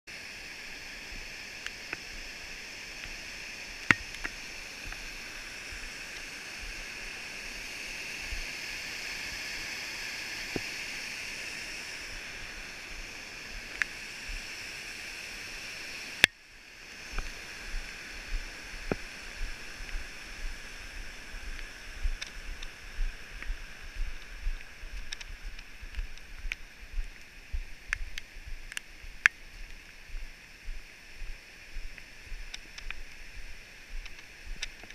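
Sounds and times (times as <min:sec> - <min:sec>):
creek rushing over rocks: 0:00.1 - 0:34.9.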